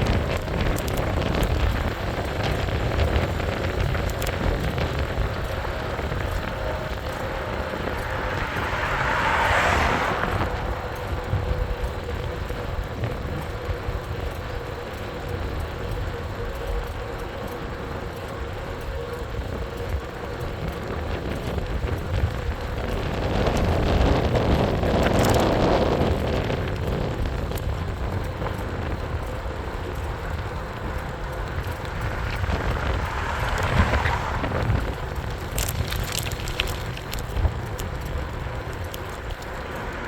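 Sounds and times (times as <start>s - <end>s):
car passing: 0.0s - 14.8s, 22.2s - 40.0s
wind and road noise: 0.0s - 40.0s.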